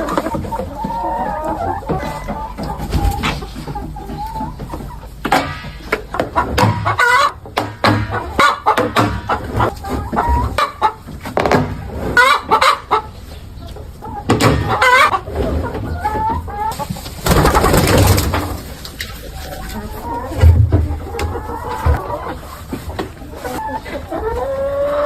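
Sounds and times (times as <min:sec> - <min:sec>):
chickens clucking and squawking: 0:00.0 - 0:25.0.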